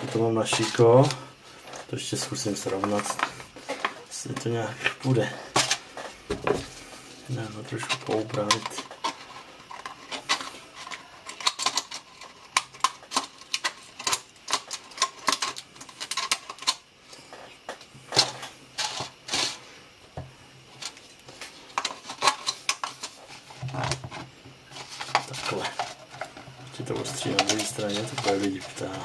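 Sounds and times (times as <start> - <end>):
plastic scraping crackles: 0.0 - 19.6, 20.7 - 29.0.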